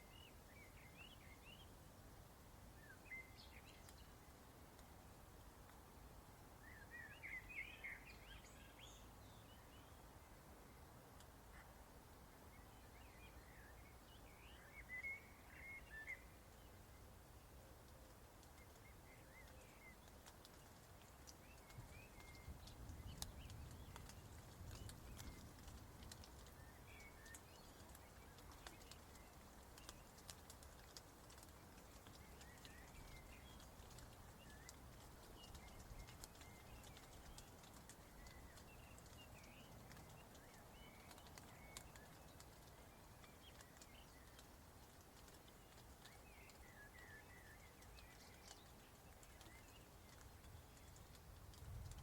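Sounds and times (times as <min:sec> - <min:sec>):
small birds chirping: 0:00.0 - 0:01.8, 0:02.7 - 0:05.9, 0:06.6 - 0:52.0.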